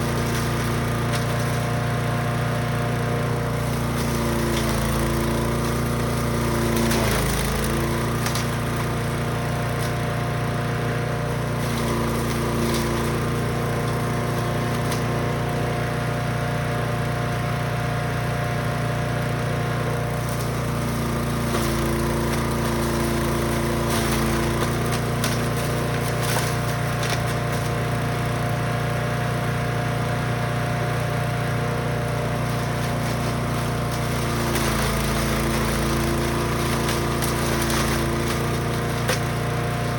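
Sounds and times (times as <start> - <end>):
chipper engine running: 0.0 - 39.9.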